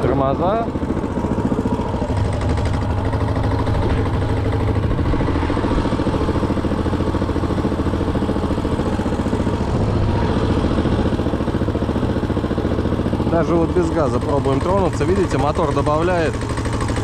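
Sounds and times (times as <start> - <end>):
small engine running steadily: 0.0 - 17.0.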